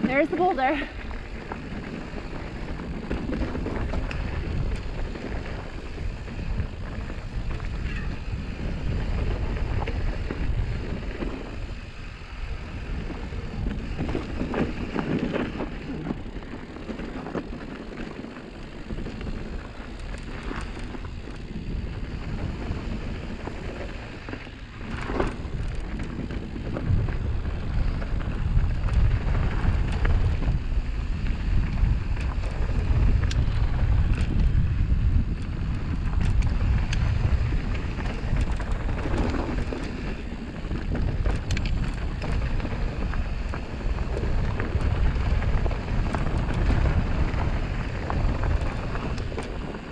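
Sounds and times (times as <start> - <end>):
bike clicks and rattles: 0.0 - 49.9
bike tyre rumble: 0.0 - 49.9
wind buffeting the microphone: 0.0 - 49.9.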